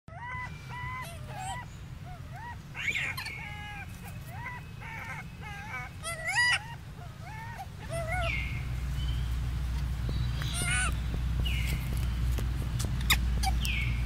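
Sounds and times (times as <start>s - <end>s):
young monkeys calling: 0.1s - 14.0s.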